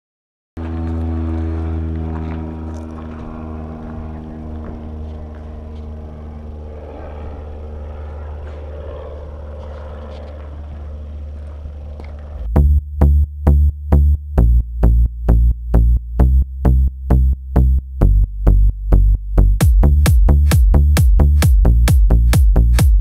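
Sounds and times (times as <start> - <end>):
propeller plane engine droning: 0.6 - 22.9.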